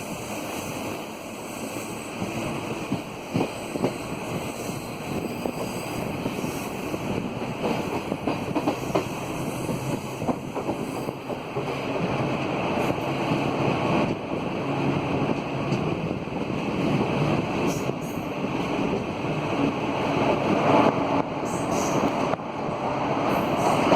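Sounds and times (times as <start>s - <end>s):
train rolling noise: 0.0s - 23.9s.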